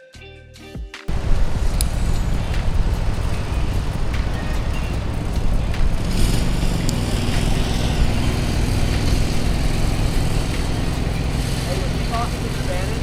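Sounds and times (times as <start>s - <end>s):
motor vehicle traffic rumble: 1.1s - 13.0s.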